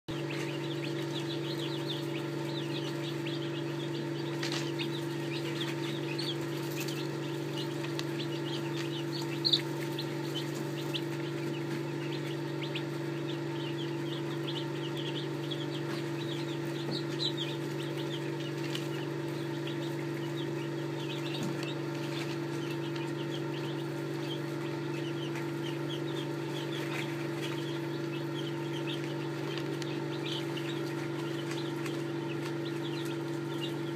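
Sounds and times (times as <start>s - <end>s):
chicks peeping: 0.1s - 33.9s
steady low hum: 0.1s - 33.9s.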